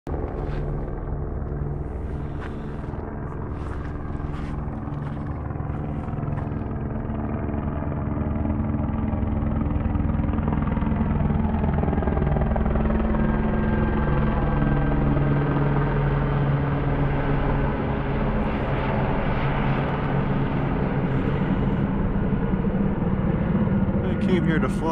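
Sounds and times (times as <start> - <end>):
helicopter flying overhead: 0.1 - 24.9.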